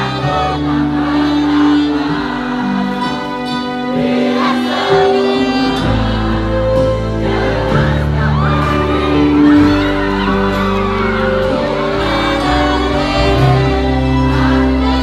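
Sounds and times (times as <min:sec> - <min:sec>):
crowd shouting and cheering: 0:00.0 - 0:15.0
live pop band music: 0:00.0 - 0:15.0.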